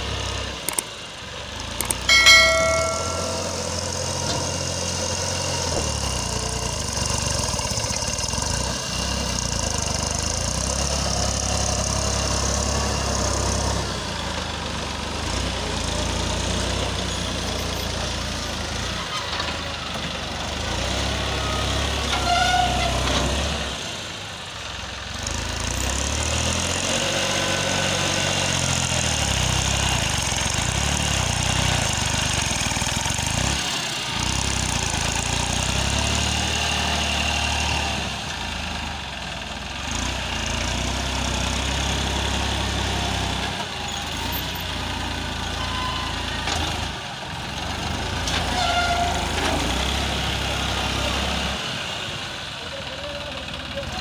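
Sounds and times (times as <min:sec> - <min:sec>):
tractor diesel engine working: 0:00.0 - 0:54.0.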